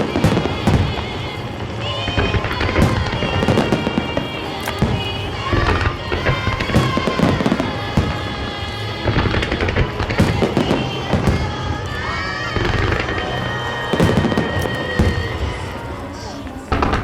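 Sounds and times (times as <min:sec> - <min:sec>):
fireworks bursting and crackling: 0:00.0 - 0:17.0
music: 0:00.0 - 0:17.0.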